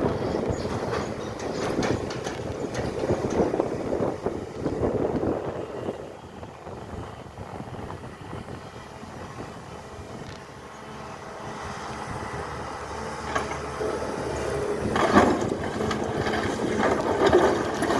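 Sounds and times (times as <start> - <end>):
excavator engine running: 0.0 - 17.9.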